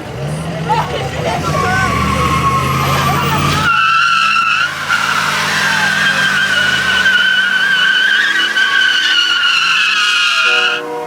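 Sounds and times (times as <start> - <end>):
car engine revving hard: 0.0 - 10.8
tyres squealing: 0.6 - 10.8.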